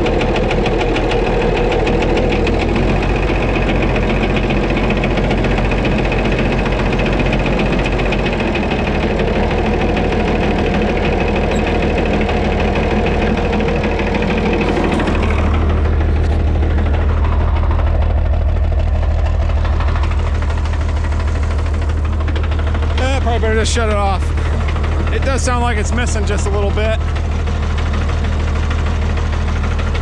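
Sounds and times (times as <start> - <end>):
diesel tractor engine knocking: 0.0 - 30.0.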